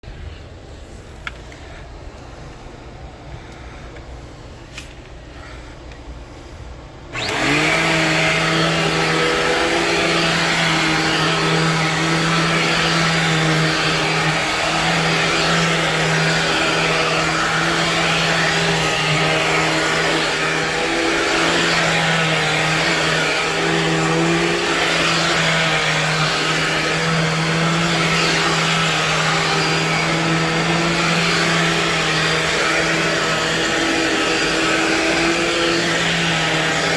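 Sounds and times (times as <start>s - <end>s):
vacuum cleaner motor running: 7.1s - 36.9s.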